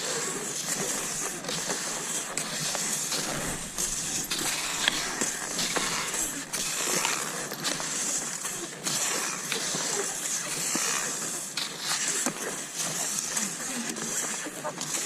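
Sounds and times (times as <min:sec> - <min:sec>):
skis swishing over snow: 0:00.0 - 0:15.0.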